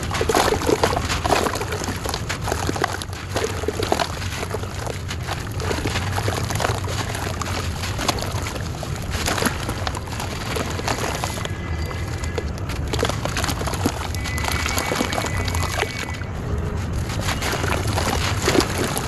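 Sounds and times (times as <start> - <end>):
bits splashing into water: 0.0 - 16.3, 17.0 - 19.0
clay crumbling and crunching: 0.0 - 19.0.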